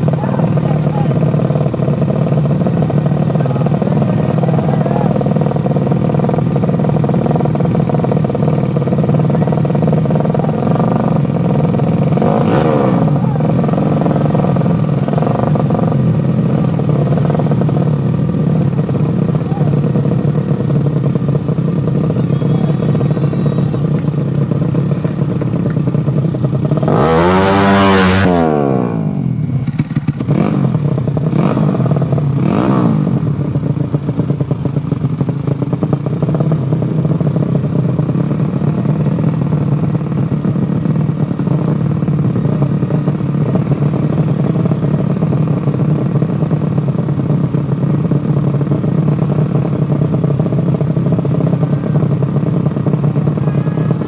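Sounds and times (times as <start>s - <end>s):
motorcycle engines running: 0.0s - 54.0s.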